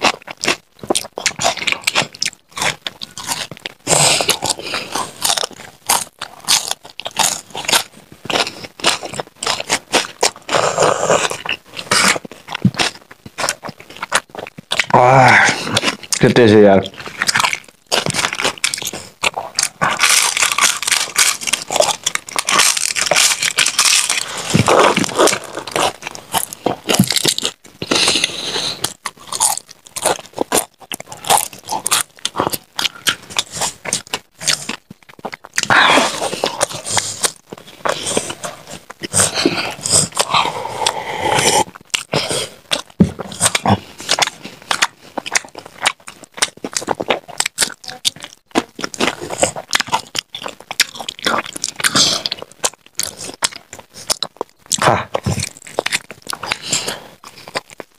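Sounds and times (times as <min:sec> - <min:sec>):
crunching crisp snacks: 0:00.0 - 0:57.9.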